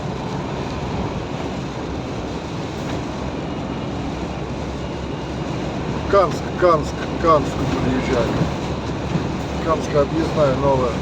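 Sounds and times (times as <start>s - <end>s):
rain on vehicle: 0.0s - 11.0s.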